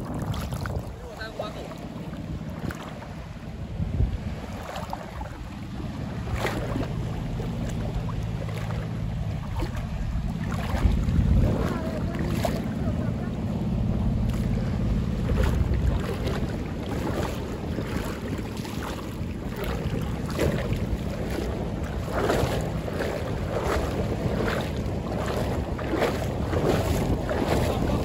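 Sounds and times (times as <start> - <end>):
water sloshing and splashing: 0.0 - 28.0
wind buffeting microphone: 0.0 - 28.0.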